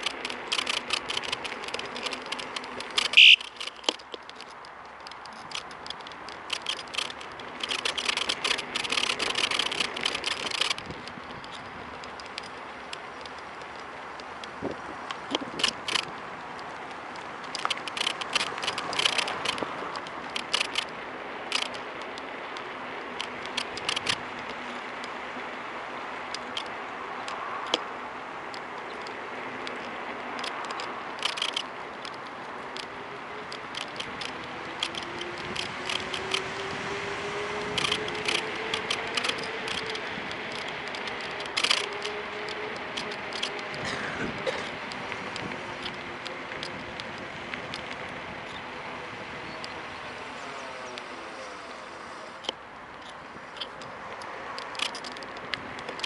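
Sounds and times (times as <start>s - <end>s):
phone holder creaking and clicking: 0.0s - 25.2s, 26.2s - 36.7s, 37.6s - 47.9s, 52.4s - 56.0s
road and wind noise: 0.0s - 56.0s.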